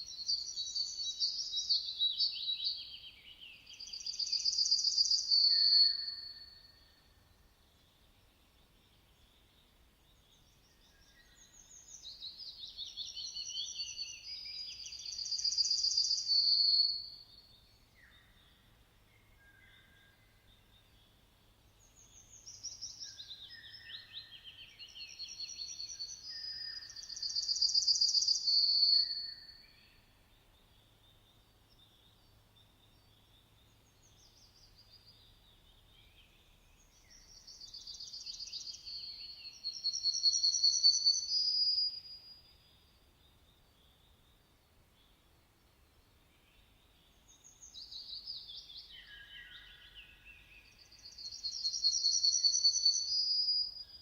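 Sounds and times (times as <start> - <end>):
songbird singing with trill: 0.0 - 54.0.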